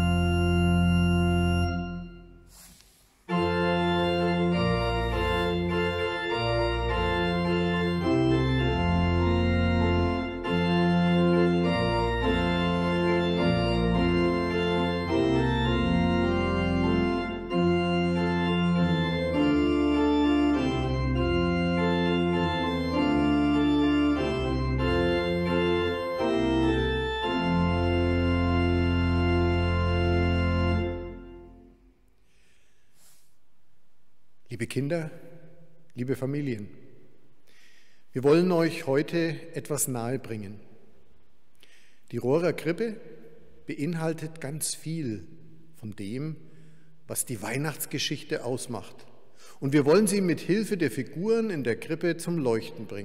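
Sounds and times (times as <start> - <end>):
pipe organ playing chords: 0.0 - 2.5, 3.3 - 32.5, 33.9 - 41.4, 42.1 - 53.0.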